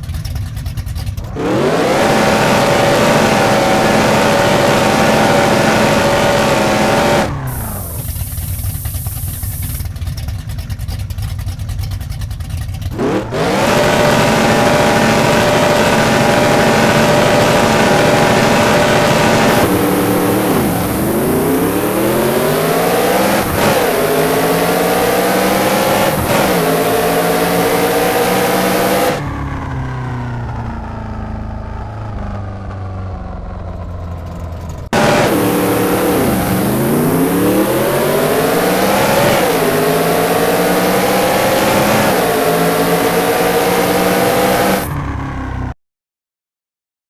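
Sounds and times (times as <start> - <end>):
race car engine revving: 1.2 - 9.9, 12.8 - 31.2, 33.4 - 45.0.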